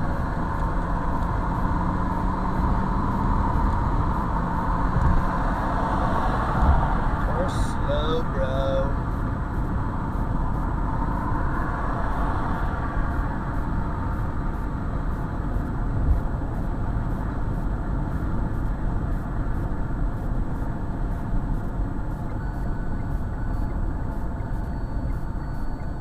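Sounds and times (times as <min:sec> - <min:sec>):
car engine and tyre noise: 0:00.0 - 0:26.0.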